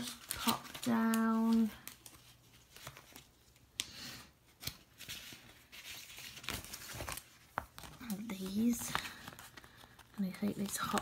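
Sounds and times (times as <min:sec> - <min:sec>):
paper stickers rustling and crinkling: 0:00.0 - 0:11.0.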